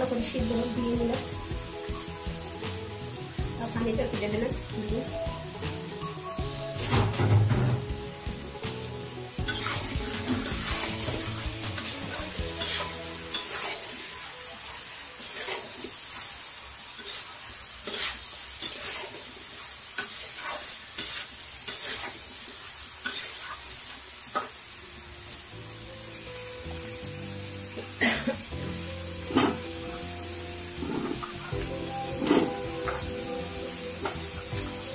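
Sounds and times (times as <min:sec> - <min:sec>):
curry sizzling in a pan: 0:00.0 - 0:34.9.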